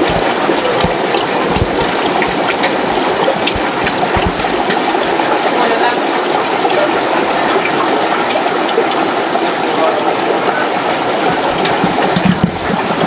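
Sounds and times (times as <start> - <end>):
water rushing through aquarium filter: 0.0 - 13.0.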